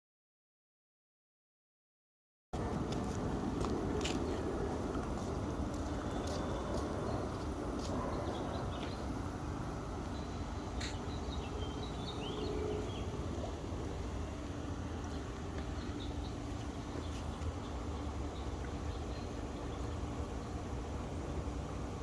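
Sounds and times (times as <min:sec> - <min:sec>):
faint hum: 0:02.6 - 0:22.0.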